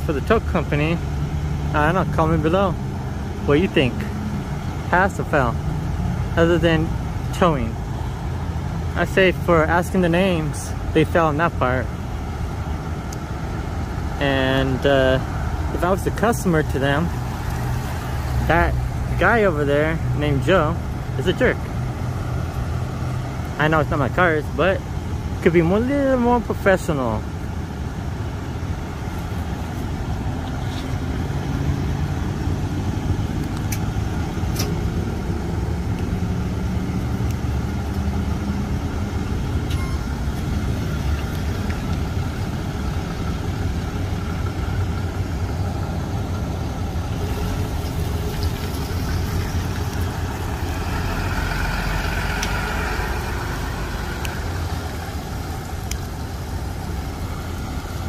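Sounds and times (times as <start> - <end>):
traffic noise: 0.0 - 58.0
truck engines idling: 0.0 - 58.0.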